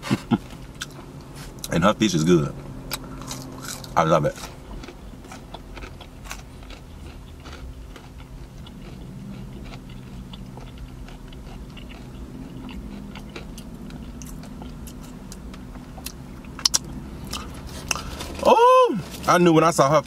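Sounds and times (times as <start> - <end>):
steady low hum: 0.0 - 20.0
chewing crispy fried fish: 2.9 - 19.3.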